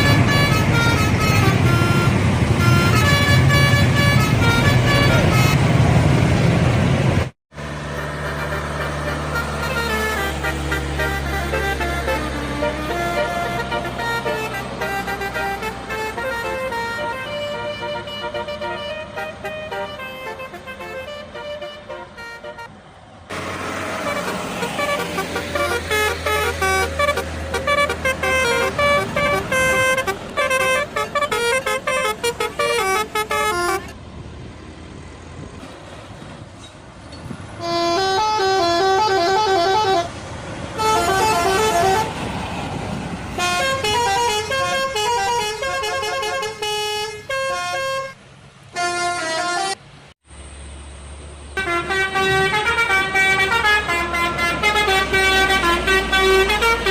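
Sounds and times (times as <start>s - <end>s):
bus musical air horns: 0.0s - 6.0s, 7.6s - 34.0s, 37.6s - 50.2s, 51.6s - 56.9s
low engine hum: 0.0s - 45.7s.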